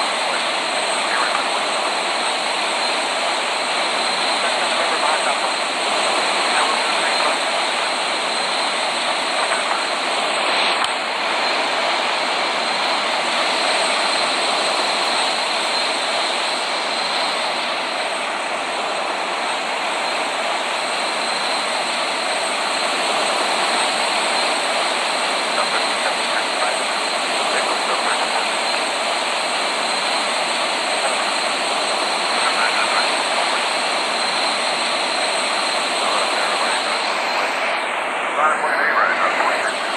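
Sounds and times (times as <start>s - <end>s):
jet engines running: 0.0s - 39.9s
thin high whine: 0.0s - 39.9s.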